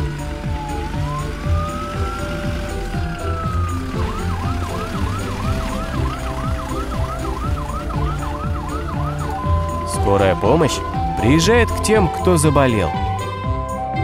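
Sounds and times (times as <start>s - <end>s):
cartoon ambulance siren: 0.0s - 14.0s
light background music: 0.0s - 14.0s.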